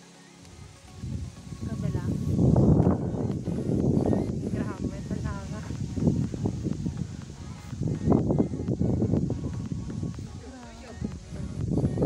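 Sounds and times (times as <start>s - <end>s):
footsteps on dirt path: 0.4s - 12.0s
wind rumbling on microphone: 0.5s - 12.0s.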